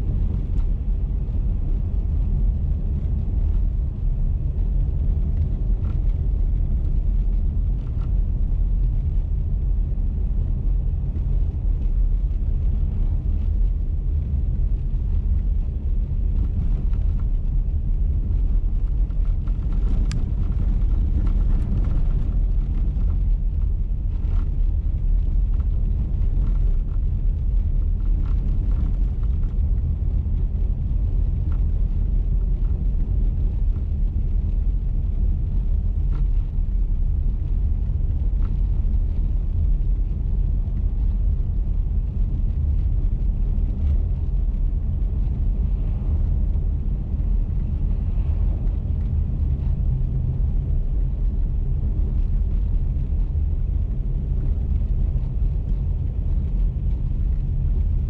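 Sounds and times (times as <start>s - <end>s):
car engine rumble: 0.0s - 58.0s
tyre road noise: 0.0s - 58.0s.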